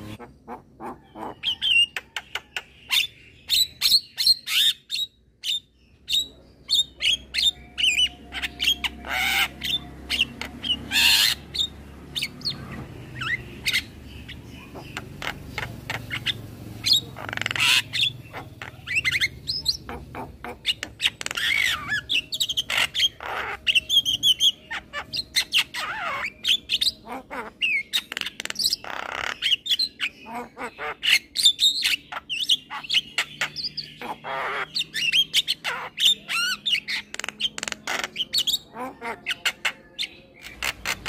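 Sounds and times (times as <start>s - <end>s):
myna bird calling: 0.0s - 41.0s.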